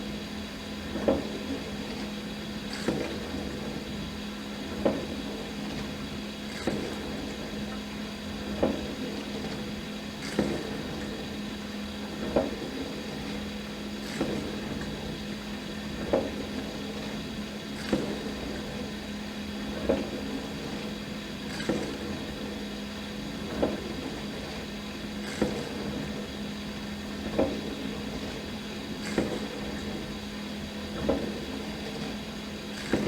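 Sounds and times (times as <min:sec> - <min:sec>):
dishwasher pump hum: 0:00.0 - 0:33.0.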